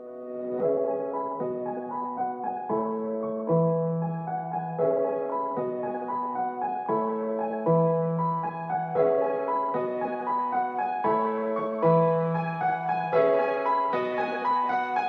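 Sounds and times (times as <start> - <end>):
keyboard music with piano tone: 0.0 - 15.0.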